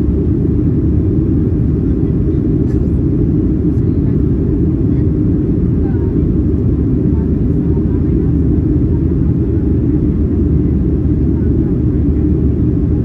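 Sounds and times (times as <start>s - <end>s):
airplane cabin engine roar: 0.0s - 13.0s.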